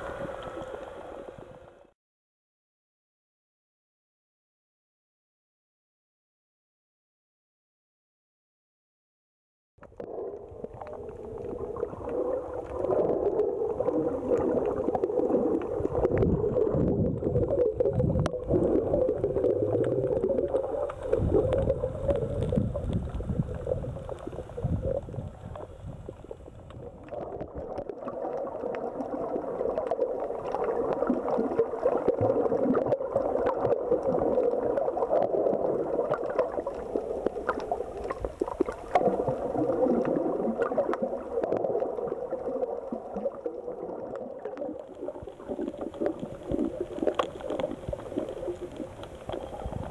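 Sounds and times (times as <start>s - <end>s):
faint crackles: 0.0s - 1.9s, 9.8s - 49.9s
underwater gurgling rush: 0.0s - 1.9s, 9.8s - 49.9s.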